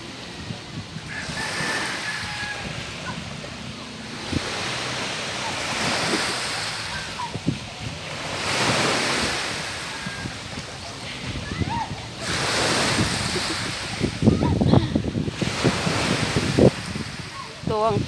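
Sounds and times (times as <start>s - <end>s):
waves washing onto pebbles: 0.0s - 18.0s.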